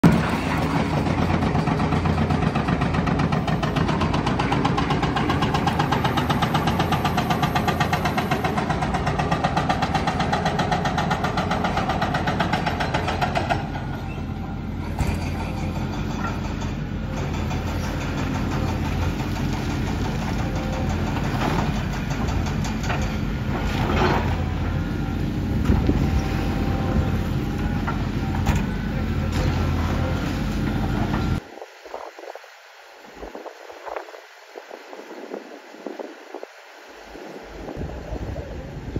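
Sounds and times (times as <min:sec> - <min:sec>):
diesel machinery engines running: 0:00.0 - 0:31.5.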